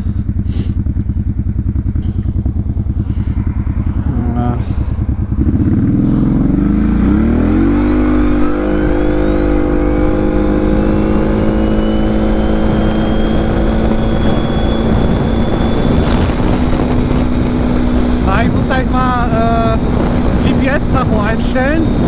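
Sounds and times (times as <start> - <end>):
quad engine accelerating: 0.0 - 22.0.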